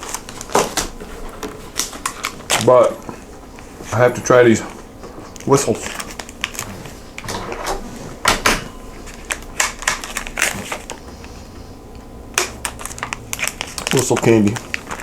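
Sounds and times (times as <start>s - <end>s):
packaging crackling: 0.0s - 15.0s.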